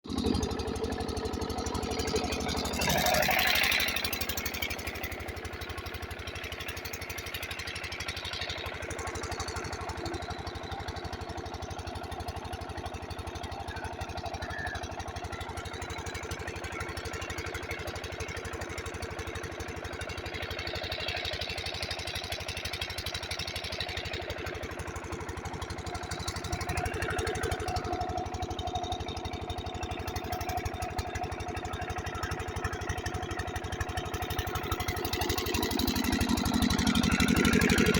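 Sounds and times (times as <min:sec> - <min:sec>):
diesel pump engine running: 0:00.0 - 0:37.9.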